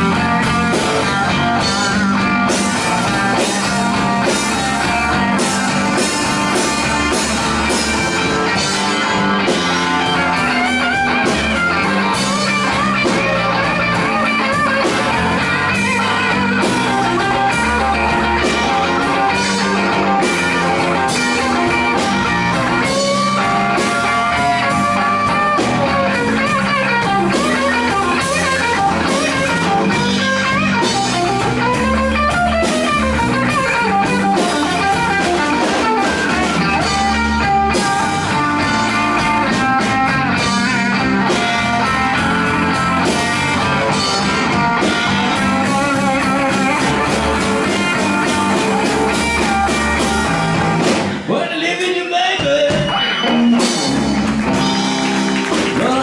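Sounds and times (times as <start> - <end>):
blues band playing: 0.0 - 56.0
electric guitar solo with bent notes: 0.0 - 56.0.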